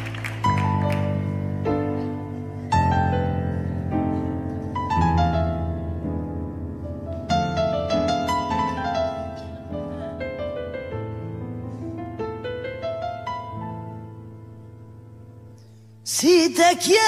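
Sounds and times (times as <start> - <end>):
piano chords and melody: 0.0 - 17.0.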